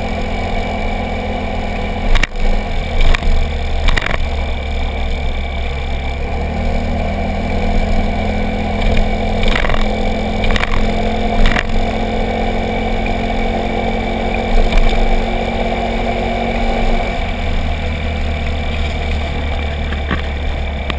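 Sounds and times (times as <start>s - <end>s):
motorcycle engine: 0.0s - 20.9s.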